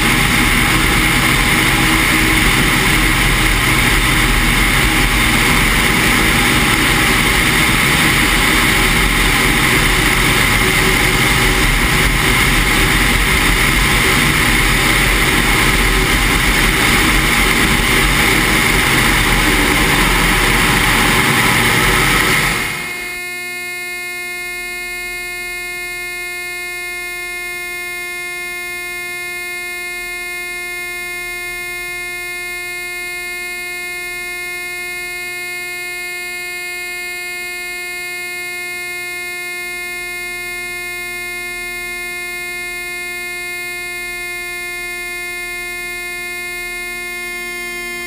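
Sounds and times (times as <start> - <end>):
steady electronic tone: 0.0 - 48.0.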